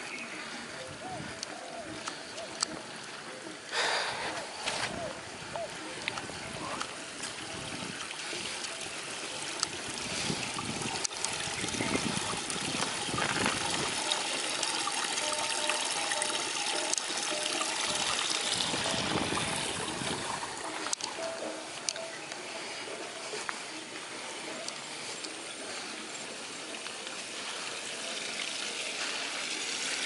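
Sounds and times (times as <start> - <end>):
water trickling and splashing: 0.0 - 30.0.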